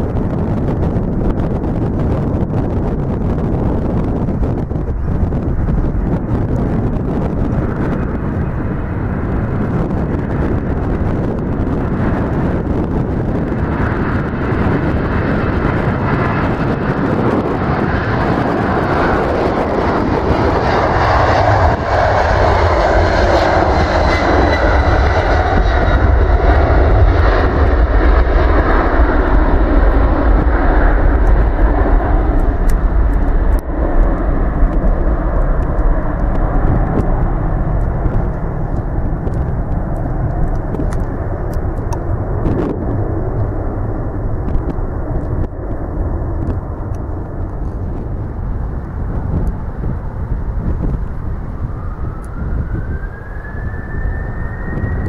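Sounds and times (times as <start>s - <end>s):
jet engines roaring: 0.0s - 55.0s
rising whine: 0.0s - 55.0s.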